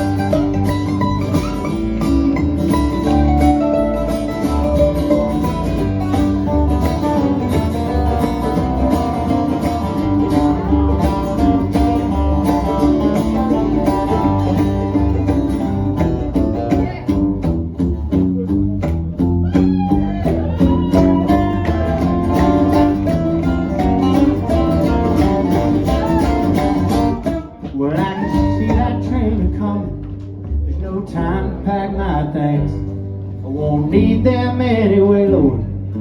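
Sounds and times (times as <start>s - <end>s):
bluegrass string instruments: 0.0s - 36.0s.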